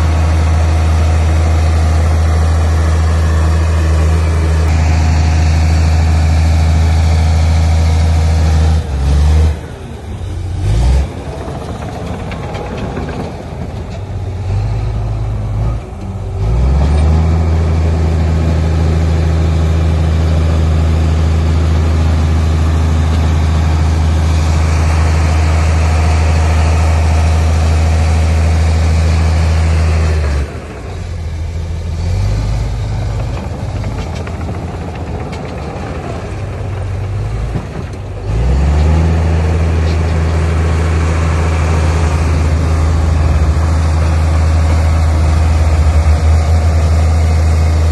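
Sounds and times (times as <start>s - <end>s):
heavy diesel engine working: 0.0s - 47.9s.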